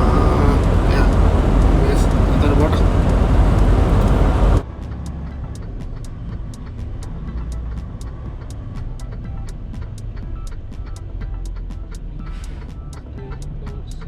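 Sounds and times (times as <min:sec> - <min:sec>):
low hum: 0:00.0 - 0:13.0
sharp regular ticking: 0:00.0 - 0:14.0
truck engine and road rumble: 0:00.0 - 0:14.0.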